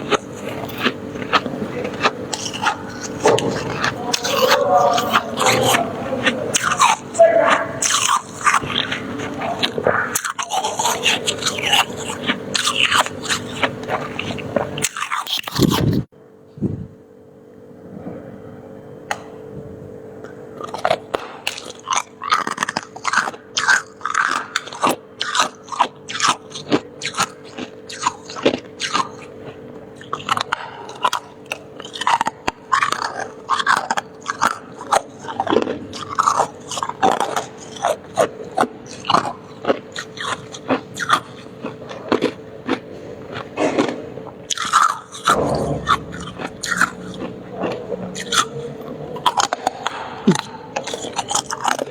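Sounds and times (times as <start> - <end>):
crunching and chewing ice: 0.0 - 16.1, 20.2 - 51.9
faint steady hum: 0.0 - 51.9.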